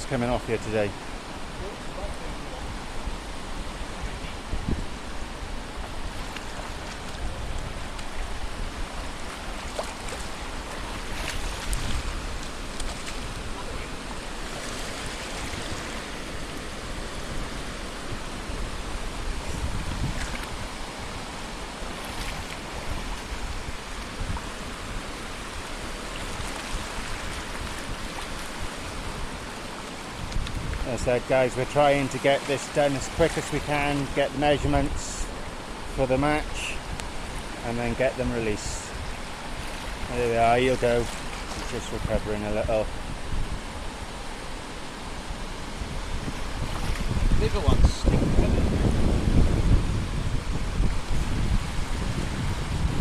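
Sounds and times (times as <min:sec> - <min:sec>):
wind rumbling on microphone: 0:00.0 - 0:32.0, 0:33.0 - 0:53.0
sea surf on a beach: 0:00.0 - 0:53.0.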